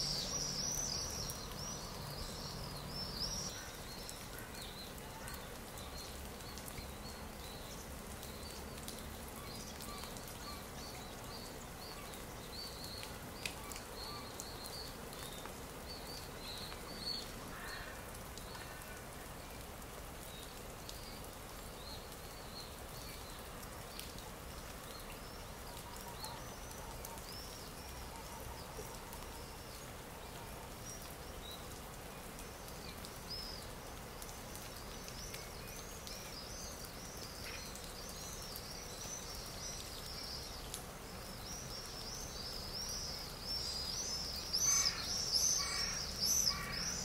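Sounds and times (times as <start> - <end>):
faint steady hiss: 0.0 - 47.0
small birds chirping: 0.0 - 47.0.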